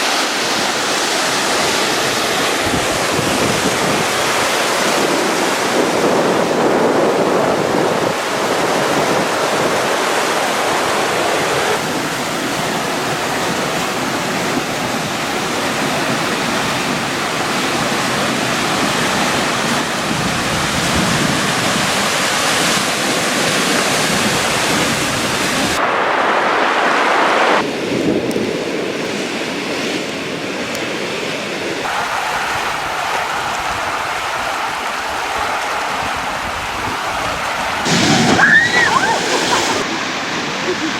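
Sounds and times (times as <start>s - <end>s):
waterfall rushing: 0.0s - 27.8s, 31.6s - 40.9s.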